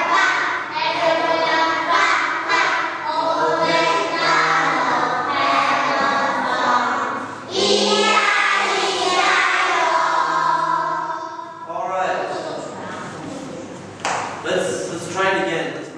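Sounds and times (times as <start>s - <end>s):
young children singing: 0.0s - 13.2s.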